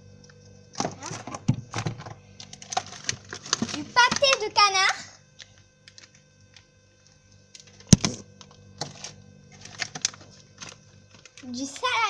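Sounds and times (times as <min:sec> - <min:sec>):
faint steady hum: 0:00.0 - 0:12.0
food packages clicking and knocking: 0:00.8 - 0:06.7, 0:07.6 - 0:11.9.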